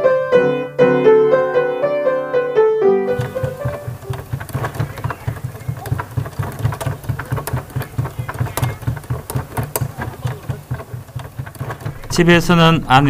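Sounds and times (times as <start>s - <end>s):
piano keys clacking: 0.0s - 13.0s.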